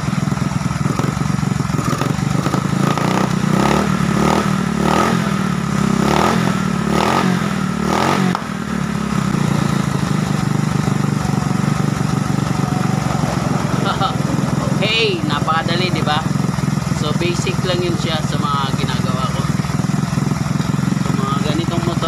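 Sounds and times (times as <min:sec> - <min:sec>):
scooter engine revving and idling: 0:00.0 - 0:22.0.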